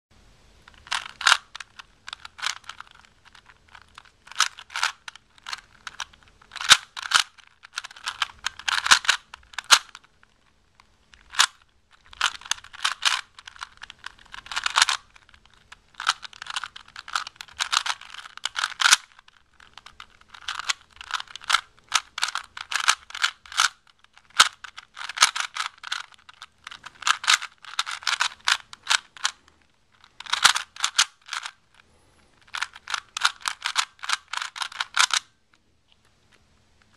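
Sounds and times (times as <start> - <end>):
puzzle cube clicking and rattling: 0.7 - 31.8, 32.4 - 35.4.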